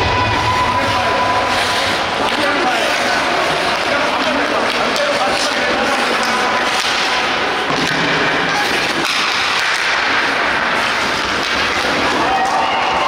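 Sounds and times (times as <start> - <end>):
rink crowd noise: 0.0 - 13.0
hockey sticks and puck knocking: 1.6 - 13.0.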